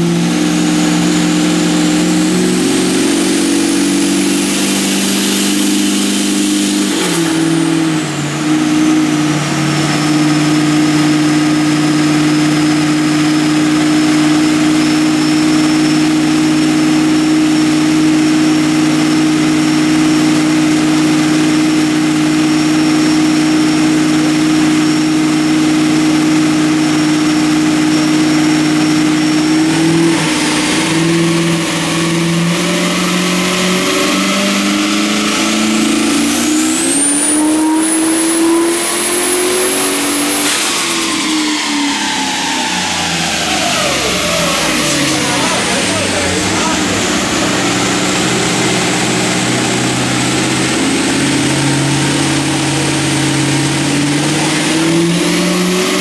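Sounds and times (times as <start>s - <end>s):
car engine revving on dyno: 0.0s - 56.0s
thin high whine: 0.0s - 56.0s.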